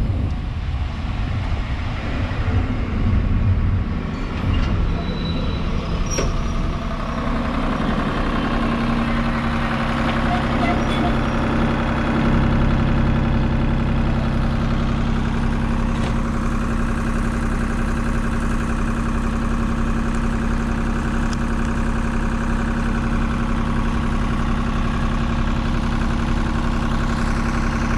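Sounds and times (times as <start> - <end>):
diesel locomotive engine idling: 0.0 - 27.9.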